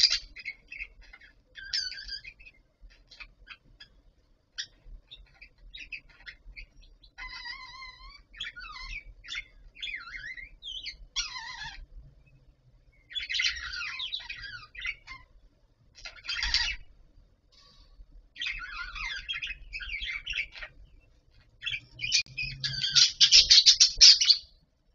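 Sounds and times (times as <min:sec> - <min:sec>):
budgerigars chattering: 0:00.0 - 0:04.0, 0:04.6 - 0:11.9, 0:13.0 - 0:15.3, 0:16.0 - 0:16.9, 0:17.6 - 0:24.5.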